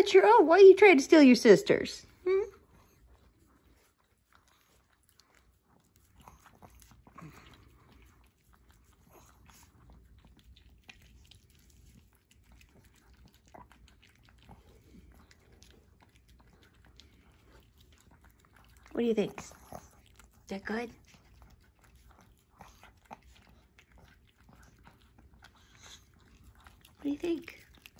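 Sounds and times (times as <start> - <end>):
puppy licking: 0.0 - 27.9.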